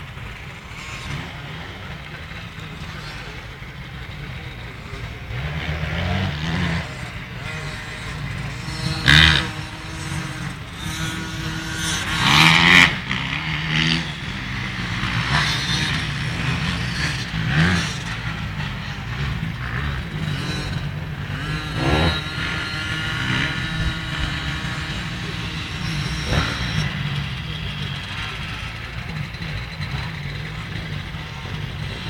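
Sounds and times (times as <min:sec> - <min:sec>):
motocross bike engine revving: 0:00.0 - 0:32.0.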